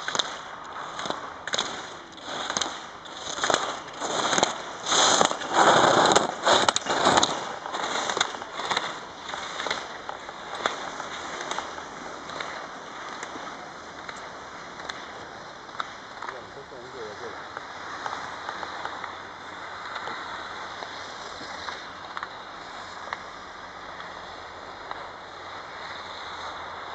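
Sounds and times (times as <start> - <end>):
skis scraping on hard snow: 0.0 - 26.9.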